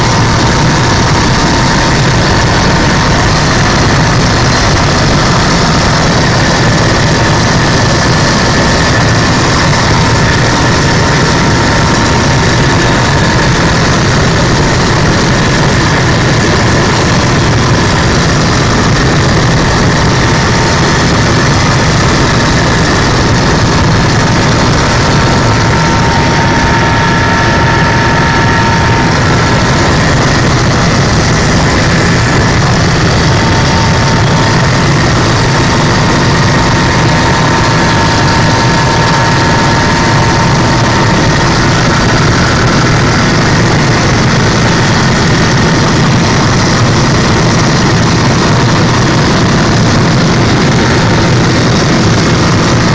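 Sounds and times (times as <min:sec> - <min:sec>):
faint steady whines: 0:00.0 - 0:52.9
helicopter engine and rotor noise: 0:00.0 - 0:52.9.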